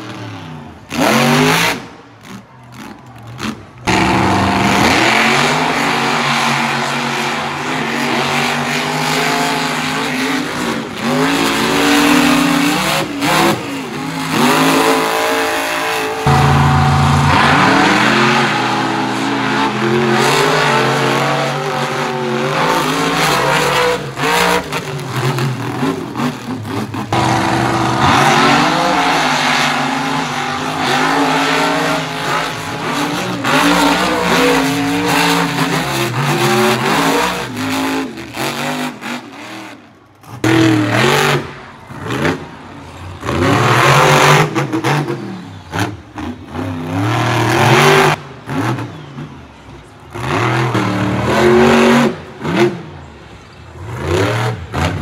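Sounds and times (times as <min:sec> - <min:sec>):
monster truck engines revving: 0:00.0 - 0:55.0.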